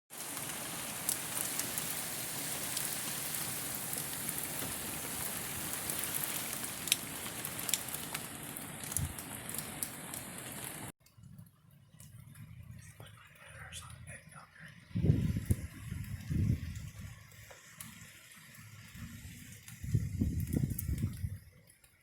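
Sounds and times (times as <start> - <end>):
heavy rain pouring: 0.1 - 10.9, 12.4 - 22.0
raindrops ticking close by: 0.1 - 22.0.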